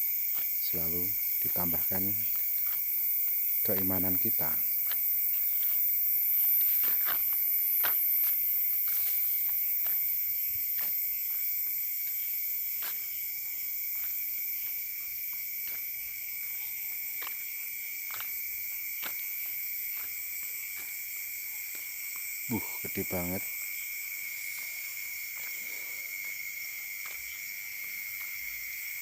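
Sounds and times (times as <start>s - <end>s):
crickets chirring: 0.0s - 29.0s
faint insect clicks: 0.1s - 29.0s.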